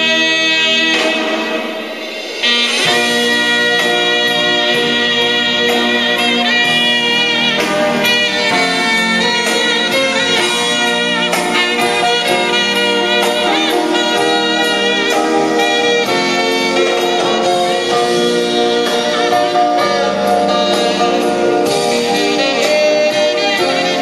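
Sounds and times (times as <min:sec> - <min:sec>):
music through hi-fi loudspeakers: 0:00.0 - 0:24.0.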